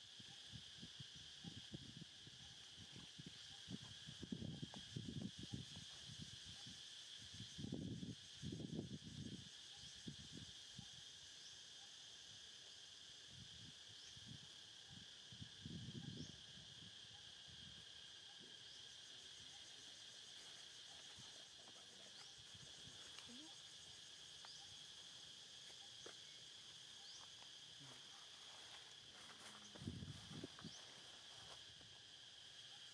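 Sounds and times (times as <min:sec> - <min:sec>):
insect chorus droning: 0:00.0 - 0:32.9.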